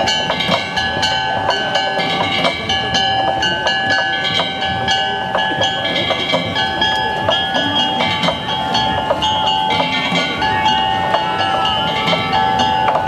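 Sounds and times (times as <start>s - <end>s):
sharp struck percussion: 0.0s - 13.0s.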